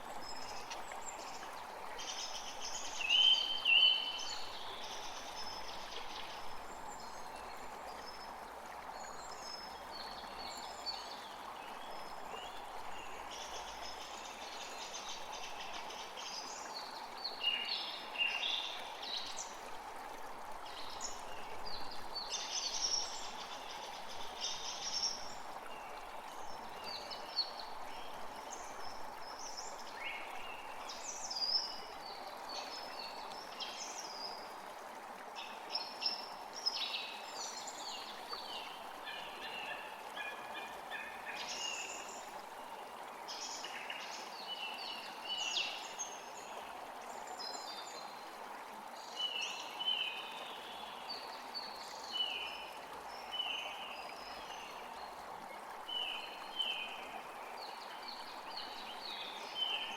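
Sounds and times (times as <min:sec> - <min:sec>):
creek flowing: 0:00.0 - 0:59.9.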